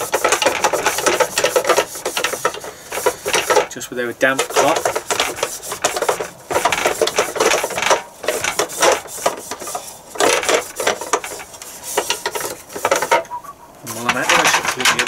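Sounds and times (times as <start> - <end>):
cloth wiping plates: 0.0 - 13.3.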